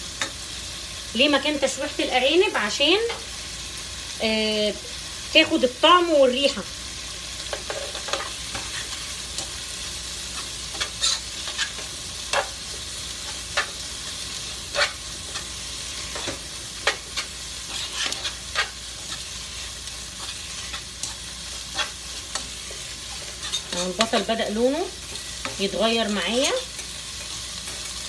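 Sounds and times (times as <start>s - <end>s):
onions sizzling: 0.0s - 28.0s.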